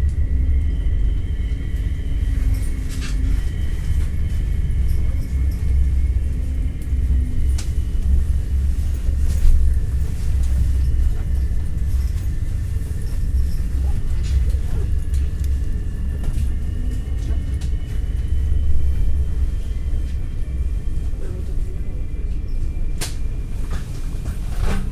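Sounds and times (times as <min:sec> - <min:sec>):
train cabin rumble: 0:00.0 - 0:24.9.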